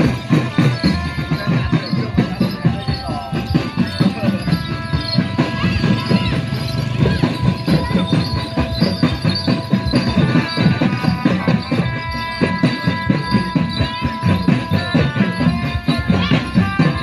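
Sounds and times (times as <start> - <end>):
fast dense drumming: 0.0 - 17.0
ringing metal percussion: 0.0 - 17.0.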